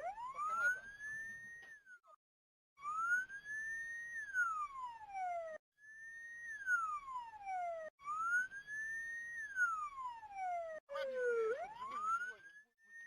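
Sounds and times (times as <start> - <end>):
emergency vehicle siren wailing: 0.0 - 2.2, 2.8 - 13.0.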